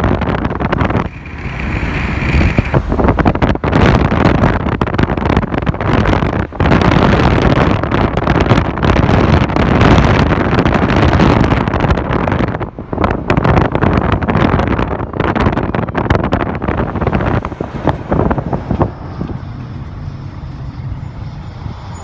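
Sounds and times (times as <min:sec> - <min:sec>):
road noise from moving car: 0:00.0 - 0:22.0
wind buffeting microphone: 0:00.0 - 0:22.0.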